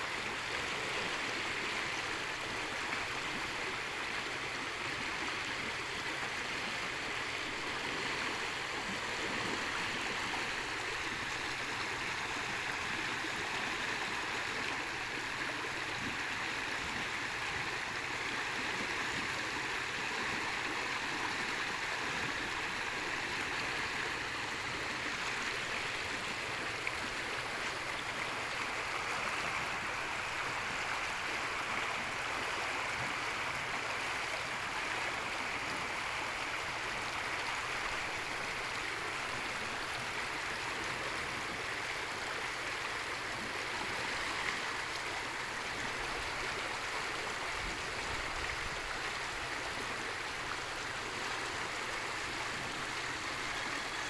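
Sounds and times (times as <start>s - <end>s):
water rushing down a channel: 0.0s - 54.0s.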